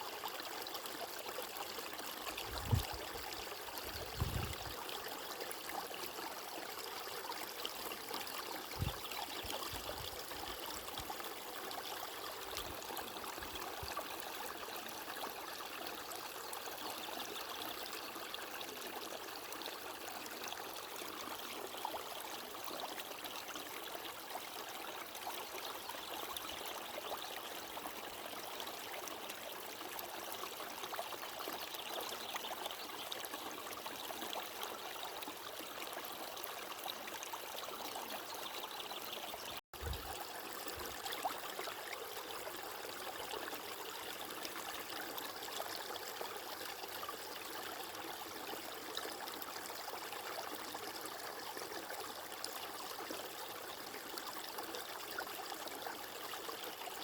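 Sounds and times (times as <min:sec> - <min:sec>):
stream flowing and trickling: 0:00.0 - 0:57.0.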